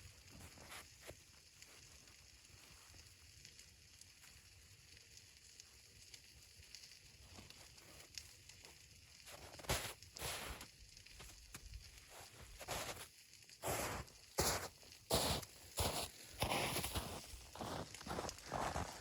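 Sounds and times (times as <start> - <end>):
faint ticks and crackles: 0.0 - 19.0.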